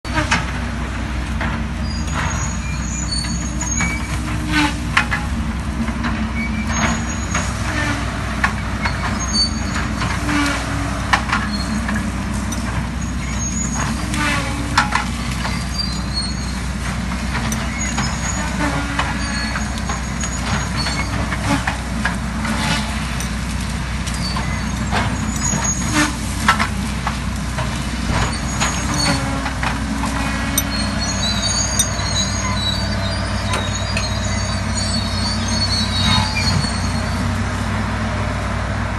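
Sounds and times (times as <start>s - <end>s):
diesel engine running: 0.0s - 38.9s
metallic squeals and creaks: 1.8s - 37.5s.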